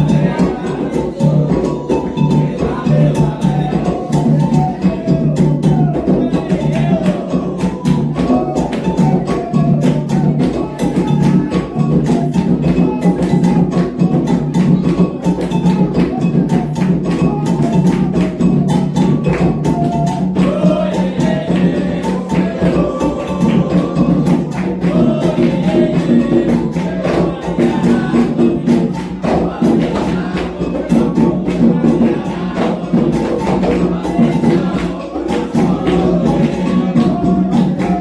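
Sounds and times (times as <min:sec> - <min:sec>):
hand drums drumming: 0:00.0 - 0:38.0
person singing: 0:00.0 - 0:38.0.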